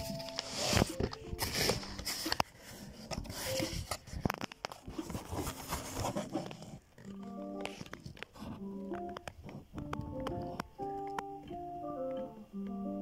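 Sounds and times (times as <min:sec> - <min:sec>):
cardboard and plastic rustling: 0:00.0 - 0:10.9.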